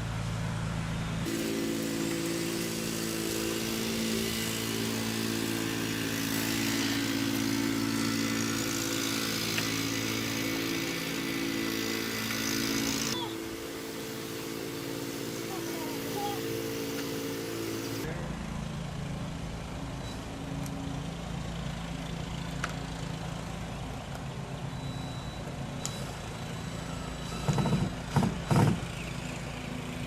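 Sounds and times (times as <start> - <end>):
motor droning hum: 0.0 - 27.4.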